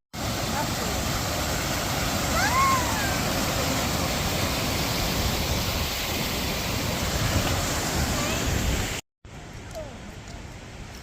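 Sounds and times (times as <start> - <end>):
rushing stream: 0.2 - 11.0.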